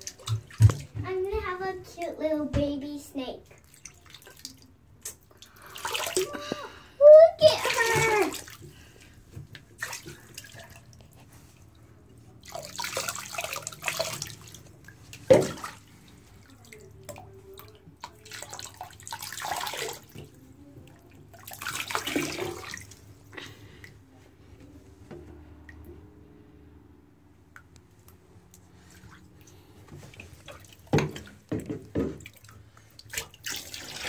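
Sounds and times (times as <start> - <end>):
water splashing into a bathtub: 0.0 - 1.8, 3.4 - 24.0, 27.5 - 34.0.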